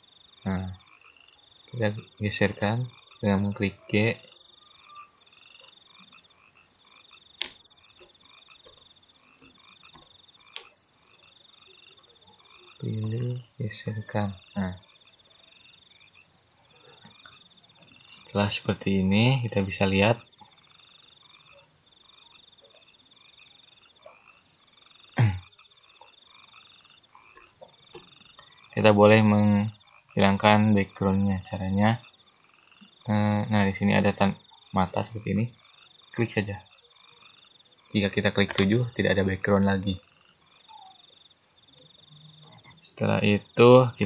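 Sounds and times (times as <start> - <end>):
chorus of calling animals: 0.0 - 44.0
frogs and insects trilling: 0.0 - 44.0.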